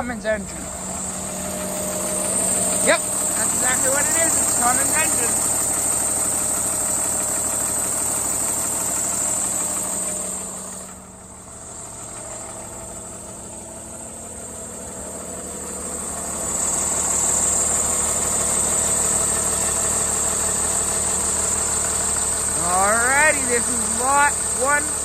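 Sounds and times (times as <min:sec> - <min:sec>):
bus engine idling: 0:00.0 - 0:25.0.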